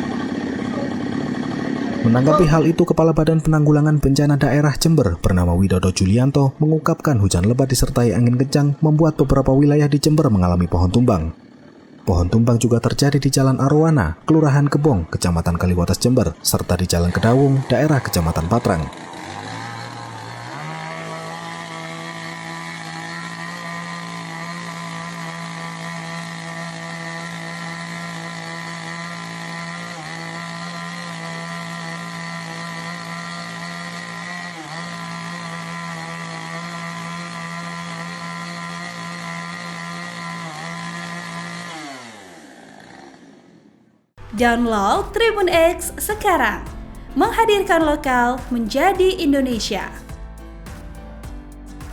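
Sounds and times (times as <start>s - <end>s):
chainsaw at full throttle: 0.0s - 6.3s, 7.1s - 50.3s.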